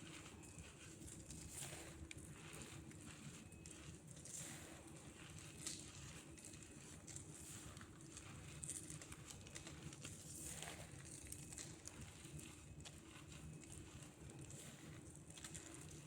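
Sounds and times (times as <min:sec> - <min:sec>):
cornstarch crunching: 0:00.0 - 0:16.0.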